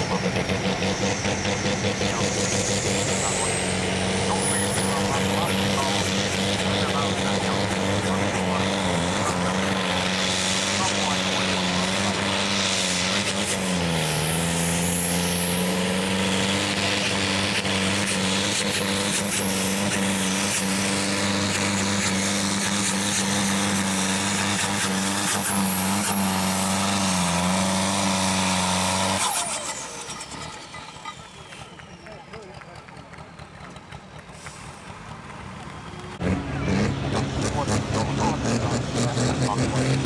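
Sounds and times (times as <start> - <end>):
tractor diesel engine under load: 0.0 - 40.0.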